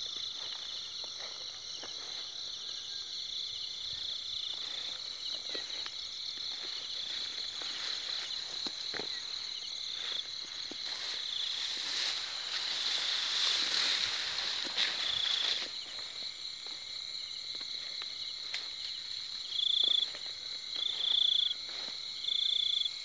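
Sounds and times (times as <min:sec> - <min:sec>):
footsteps through undergrowth: 0:00.0 - 0:02.9, 0:04.0 - 0:22.4
night insects trilling: 0:00.0 - 0:23.0.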